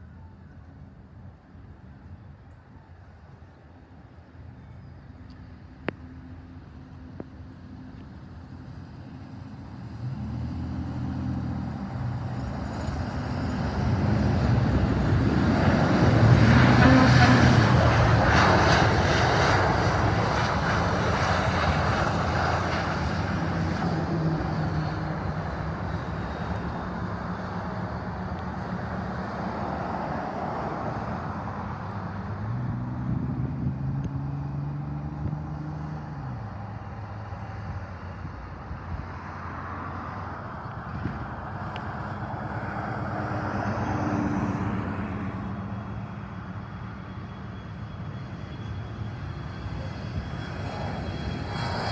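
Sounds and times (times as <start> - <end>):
aircraft flying past: 5.5 - 51.9.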